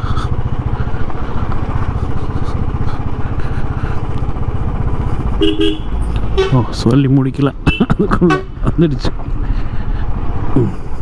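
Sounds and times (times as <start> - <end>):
motorcycle engine running: 0.0 - 11.0
tyres on gravelly road: 0.0 - 11.0.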